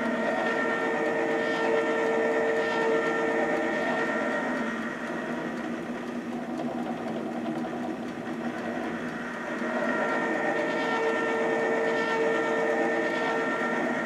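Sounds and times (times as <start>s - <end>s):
rotisserie oven humming: 0.0s - 14.0s.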